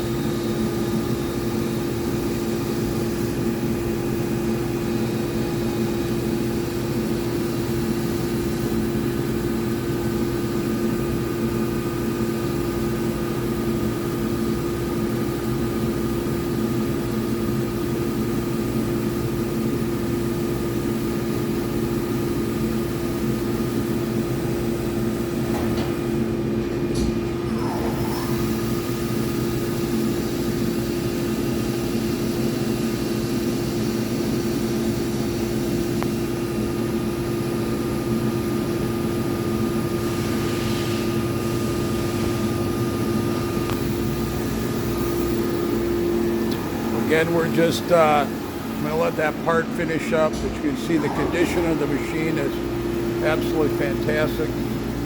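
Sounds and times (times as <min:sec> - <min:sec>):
lathe running with steady hum: 0:00.0 - 0:25.5, 0:27.4 - 0:55.0.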